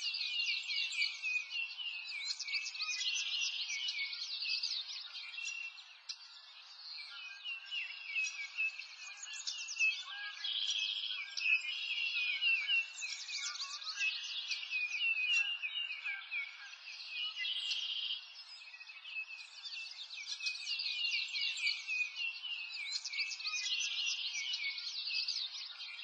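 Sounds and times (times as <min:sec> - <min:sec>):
birds chirping in chorus: 0:00.0 - 0:26.0.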